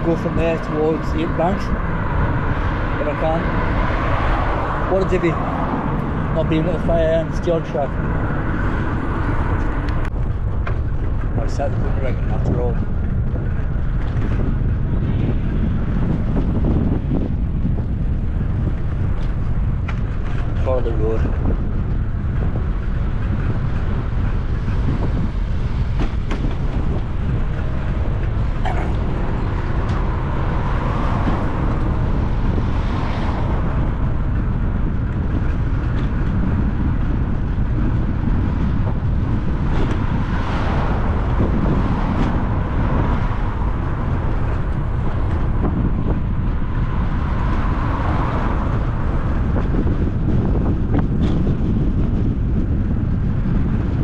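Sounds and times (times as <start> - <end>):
road traffic passing: 0.0 - 54.0
wind buffeting microphone: 0.0 - 54.0.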